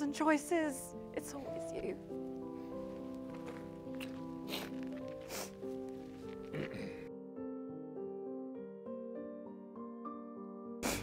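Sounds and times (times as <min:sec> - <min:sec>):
quiet piano music: 0:00.0 - 0:11.0.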